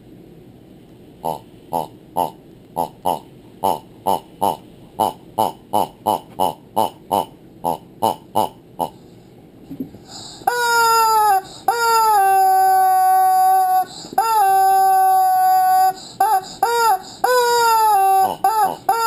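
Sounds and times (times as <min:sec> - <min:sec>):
rubber chicken toy squawking: 0:01.2 - 0:09.0, 0:10.4 - 0:19.0.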